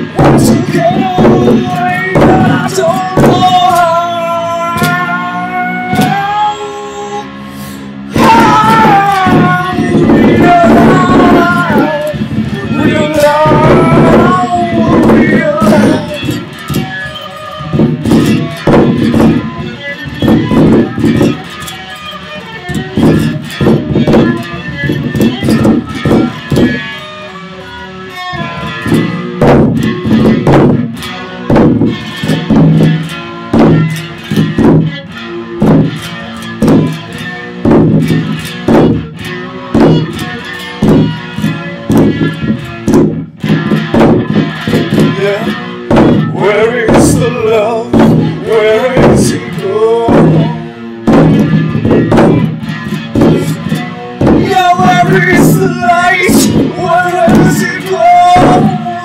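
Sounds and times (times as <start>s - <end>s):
drum hits: 0.0s - 6.5s, 8.1s - 27.1s, 28.1s - 59.0s
electric guitar chords: 0.0s - 59.0s.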